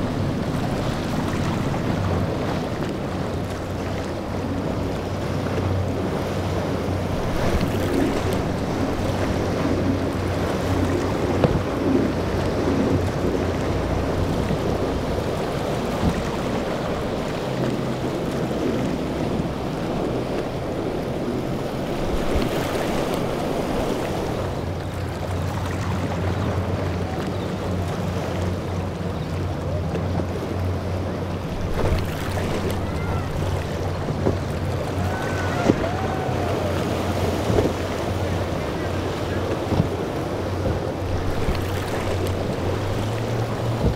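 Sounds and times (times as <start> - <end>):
boat engine drone: 0.0 - 43.9
spray and breaking waves: 0.0 - 43.9
wind buffeting microphone: 0.0 - 43.9.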